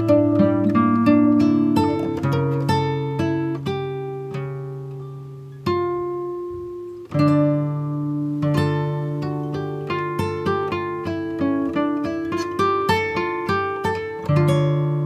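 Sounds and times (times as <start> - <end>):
acoustic guitar plucked: 0.0 - 15.0.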